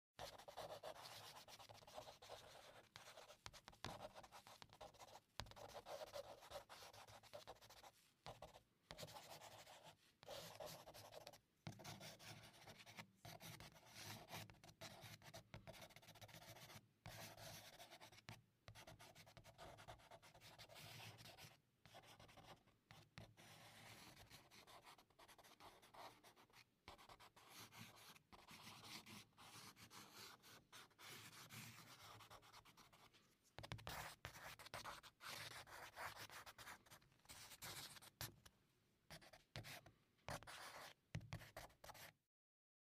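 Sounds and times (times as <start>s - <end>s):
pencil scratching on paper: 0.2s - 38.3s, 39.1s - 42.2s.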